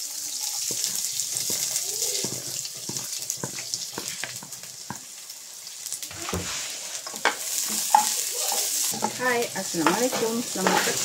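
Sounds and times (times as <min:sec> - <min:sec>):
food sizzling in hot oil: 0:00.0 - 0:11.0
spatula scraping pot: 0:00.5 - 0:05.0, 0:06.1 - 0:11.0.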